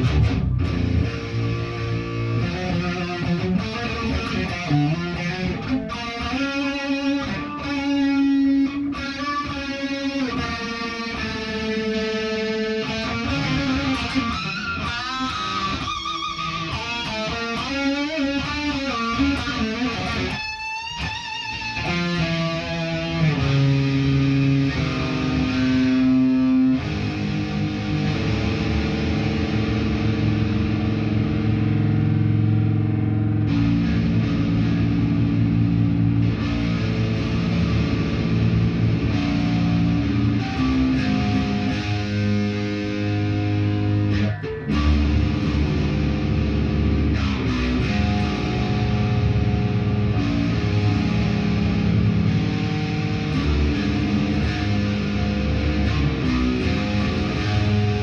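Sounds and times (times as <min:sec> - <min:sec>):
electric guitar solo: 0:00.0 - 0:58.0.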